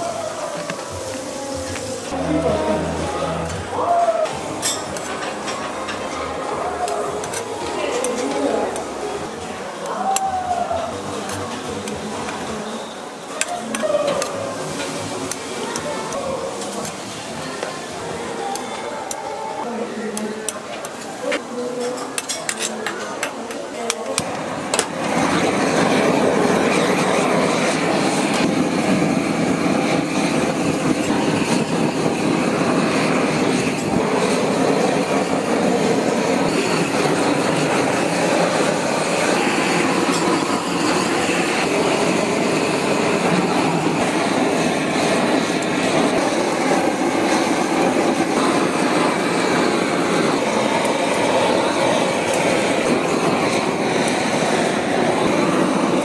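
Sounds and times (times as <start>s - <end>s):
blowtorch flame hissing: 0.0s - 2.6s, 3.6s - 21.6s, 23.8s - 56.0s.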